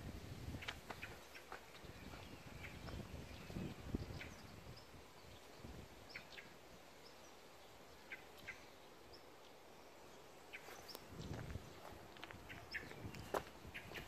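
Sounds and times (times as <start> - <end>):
faint outdoor background: 0.0 - 14.0
small birds chirping: 0.0 - 14.0.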